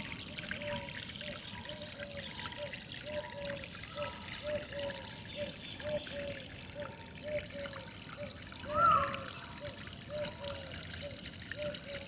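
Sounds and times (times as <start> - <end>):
water trickling and gurgling: 0.0 - 12.0.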